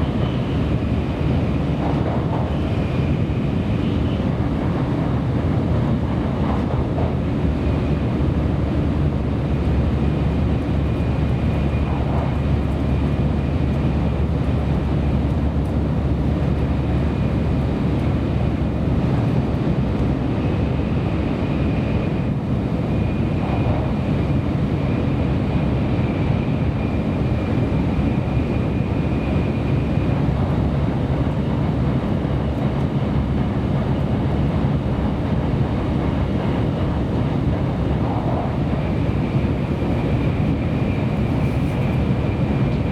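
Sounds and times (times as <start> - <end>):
train rumble inside carriage: 0.0 - 42.9.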